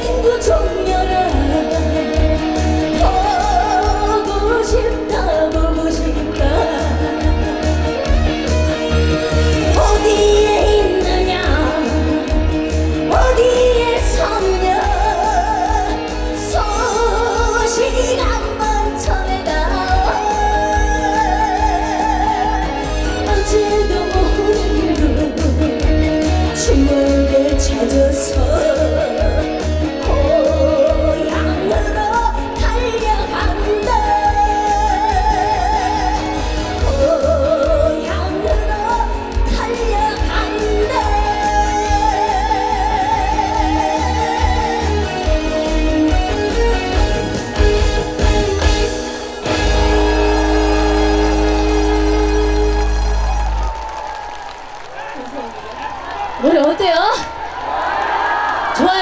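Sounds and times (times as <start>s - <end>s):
woman singing with vibrato: 0.0s - 47.5s, 48.1s - 53.5s
band backing track with bass beat: 0.0s - 54.1s.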